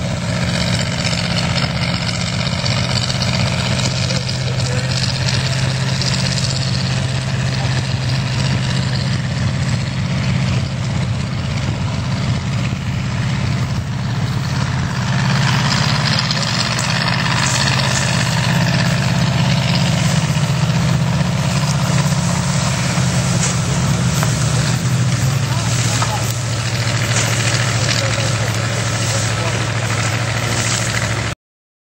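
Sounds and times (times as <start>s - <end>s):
truck engine driving through mud: 0.0s - 31.4s.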